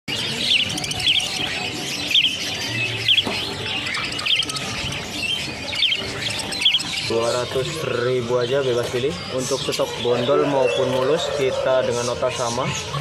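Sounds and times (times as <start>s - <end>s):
background hubbub: 0.1s - 13.0s
caged birds chirping: 0.1s - 13.0s.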